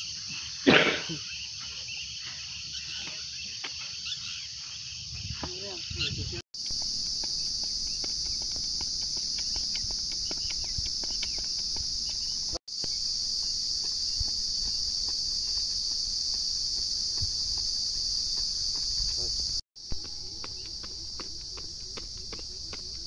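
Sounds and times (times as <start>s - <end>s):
insects chirring: 0.0s - 23.0s
runner's footfalls on dirt: 0.2s - 6.0s, 6.6s - 23.0s.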